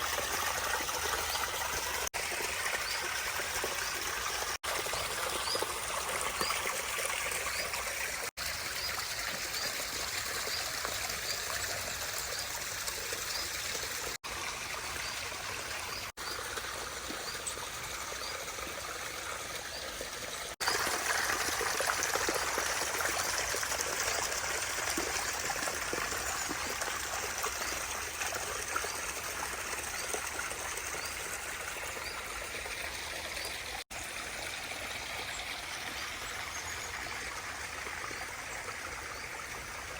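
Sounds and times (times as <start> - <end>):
water running over rocks: 0.0 - 39.9.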